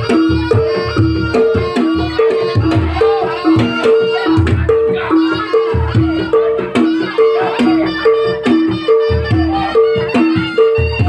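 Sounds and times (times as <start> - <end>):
hand-drum strokes: 0.0 - 11.0
repeating pitched percussion figure: 0.0 - 11.0.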